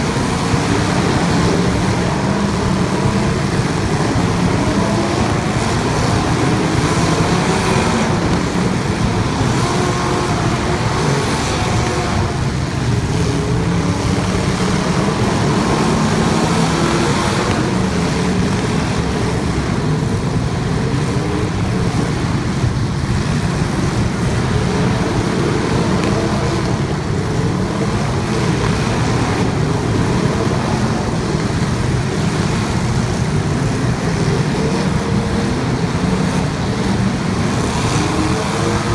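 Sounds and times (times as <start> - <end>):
race car engines roaring: 0.0 - 38.9.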